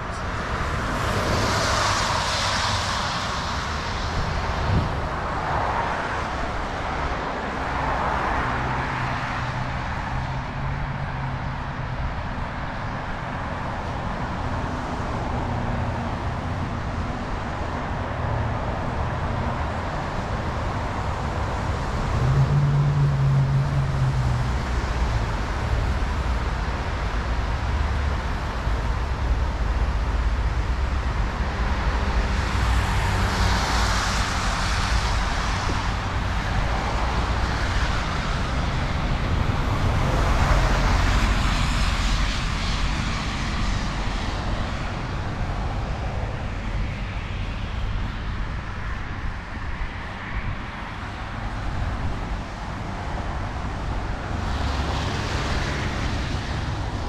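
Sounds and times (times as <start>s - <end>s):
road traffic rumble: 0.0s - 57.0s
vehicles passing: 0.0s - 57.0s.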